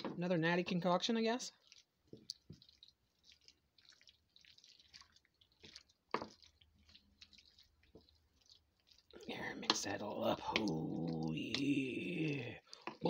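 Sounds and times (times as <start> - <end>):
spoon stirring thick food: 0.0 - 13.0.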